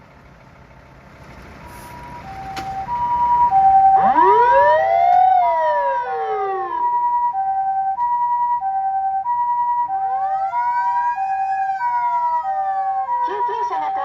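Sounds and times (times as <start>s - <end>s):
fire engine wailing siren: 1.5s - 14.0s
ambulance two-tone siren: 1.6s - 14.0s.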